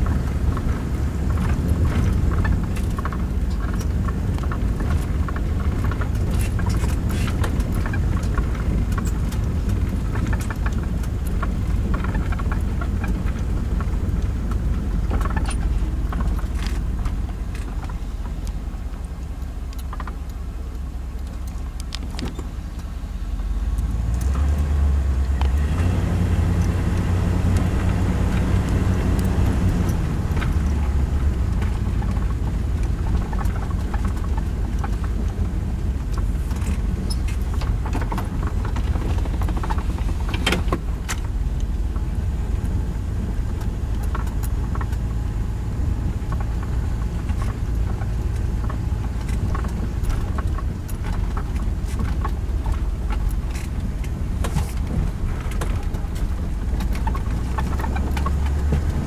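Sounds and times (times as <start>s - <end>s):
clicks and rattles: 0.0s - 23.0s, 26.6s - 59.0s
vehicle engine and tyres rumbling: 0.0s - 59.0s.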